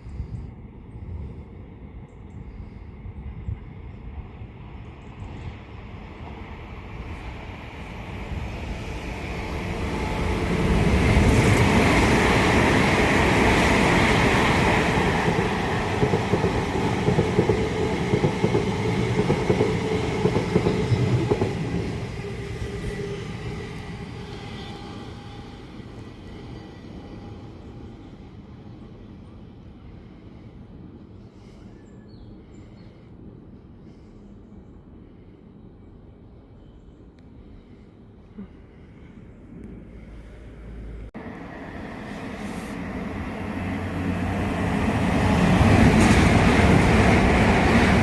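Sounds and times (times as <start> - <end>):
train passing: 0.6 - 31.6, 38.7 - 48.0.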